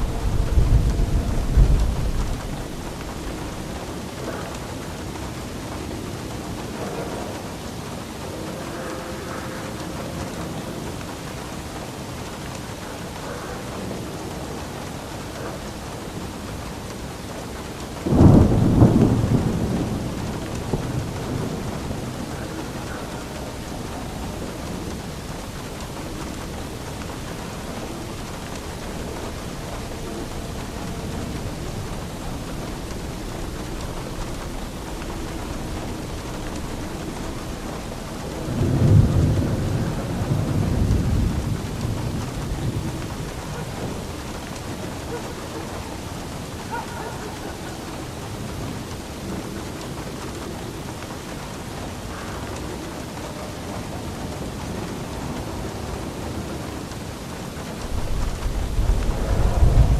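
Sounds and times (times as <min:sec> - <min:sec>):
rain falling: 0:00.0 - 0:59.9
thunder clap and rumble: 0:00.0 - 0:59.9.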